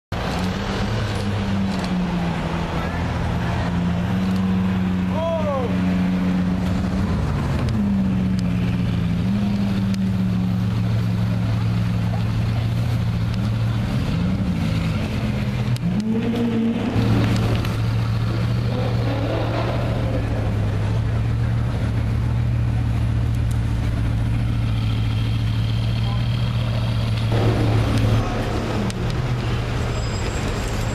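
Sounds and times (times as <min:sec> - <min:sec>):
car engine droning at low revs: 0:00.3 - 0:30.4.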